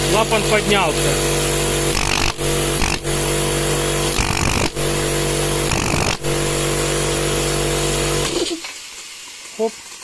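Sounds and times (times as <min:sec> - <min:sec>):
air compressor running: 0:00.0 - 0:09.2.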